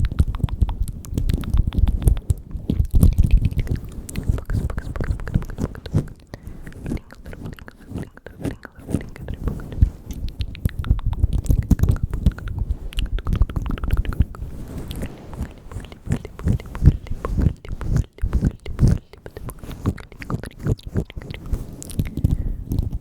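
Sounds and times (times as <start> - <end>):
wet mouth clicks and smacks: 0.0 - 23.0.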